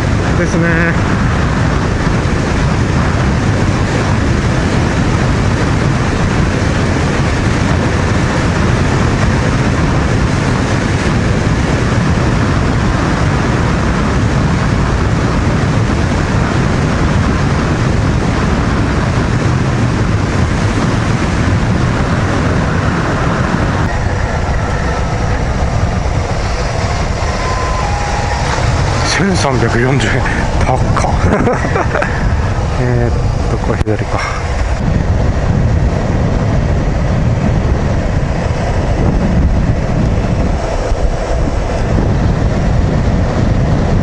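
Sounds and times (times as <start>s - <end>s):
motorcycle engine cruising: 0.0s - 44.0s
wind rushing on microphone: 0.0s - 44.0s.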